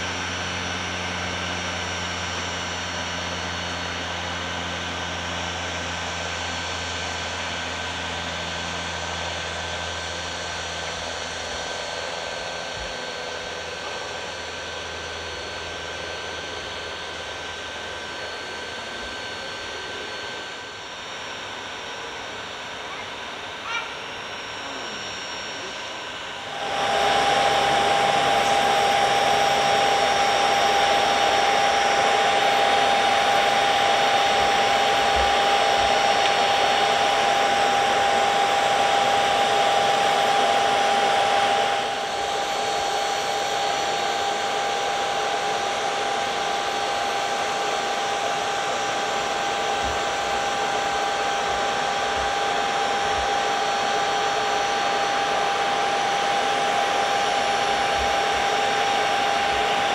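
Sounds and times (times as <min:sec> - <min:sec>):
aircraft engine rush: 0:00.0 - 0:59.9
aircraft engine whine: 0:00.0 - 0:59.9.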